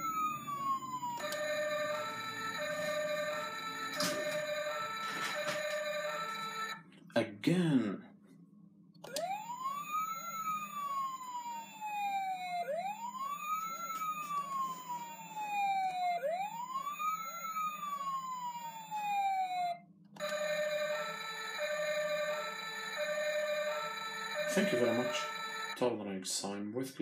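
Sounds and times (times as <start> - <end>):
toy electronic siren wailing: 0.0 - 6.8, 9.1 - 25.8.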